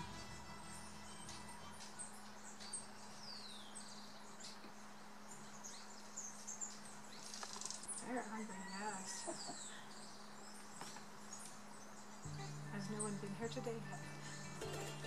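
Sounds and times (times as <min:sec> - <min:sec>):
birds chirping: 0:00.0 - 0:15.0
faint low hum: 0:00.0 - 0:15.0.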